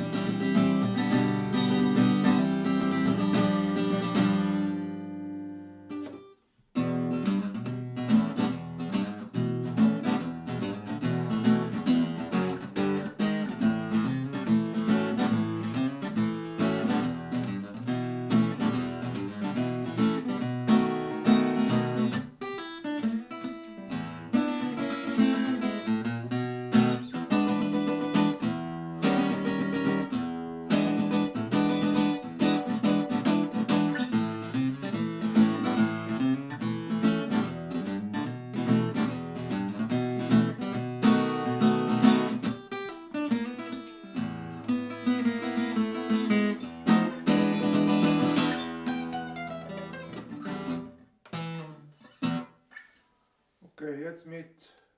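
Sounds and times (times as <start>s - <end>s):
acoustic guitar strumming and plucking: 0.0s - 53.0s.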